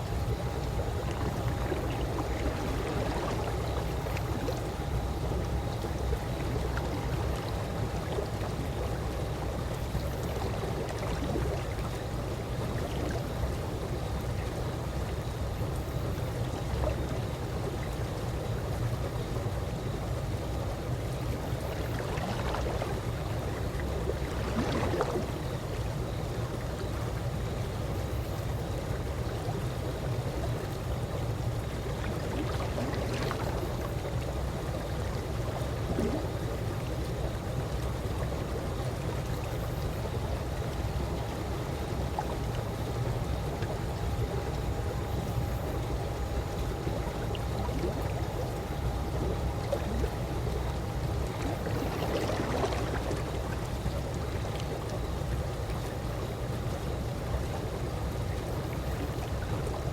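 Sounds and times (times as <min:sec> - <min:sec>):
small water splashes: 0:00.0 - 0:18.5, 0:20.6 - 0:59.9
pool water lapping: 0:00.0 - 0:59.9.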